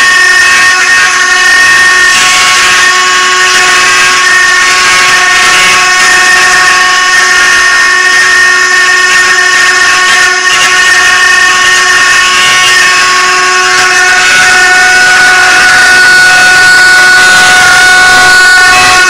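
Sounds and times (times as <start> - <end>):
router spindles whining: 0.0 - 19.0.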